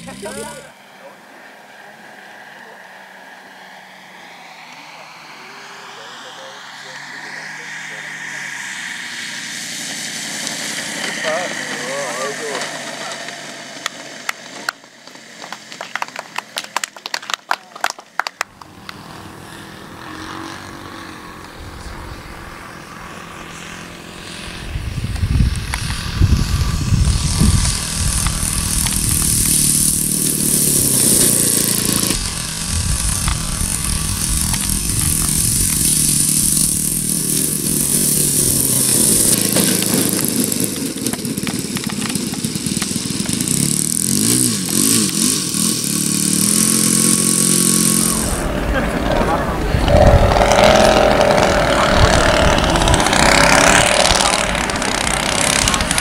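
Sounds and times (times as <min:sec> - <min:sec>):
loud model plane engine hissing: 0:00.0 - 0:16.5, 0:18.5 - 0:56.0
model plane engine running quietly: 0:00.0 - 0:16.6, 0:18.5 - 0:56.0.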